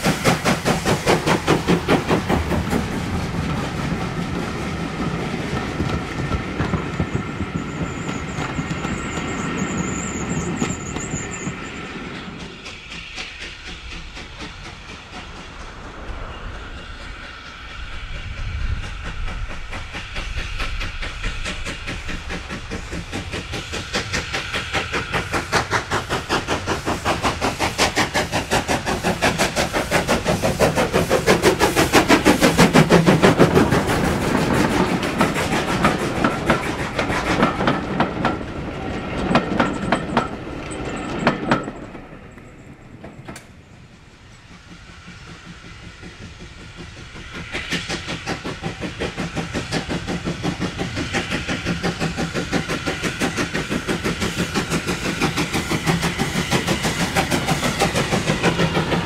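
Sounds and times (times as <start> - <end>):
steam locomotive exhaust beats: 0.0 - 59.0.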